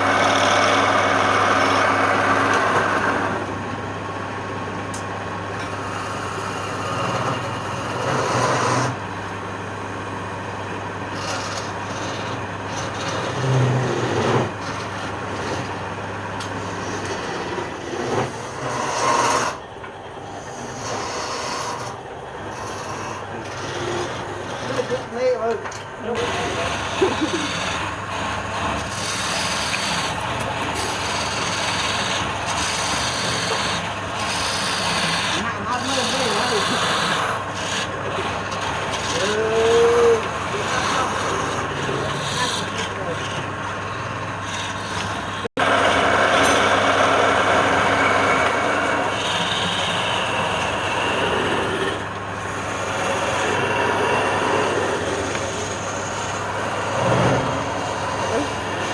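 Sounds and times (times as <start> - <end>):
wood lathe motor hum: 0.0 - 58.9
tool hissing on spinning wood: 5.7 - 9.0, 11.1 - 19.6, 20.3 - 25.5, 26.1 - 58.9.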